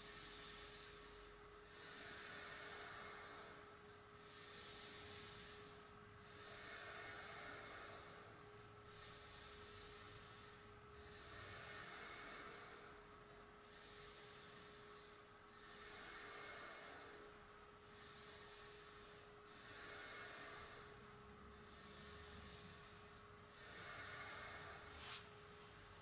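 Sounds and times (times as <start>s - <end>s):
slow breathing: 0.0s - 25.6s
faint steady hum: 0.0s - 26.0s.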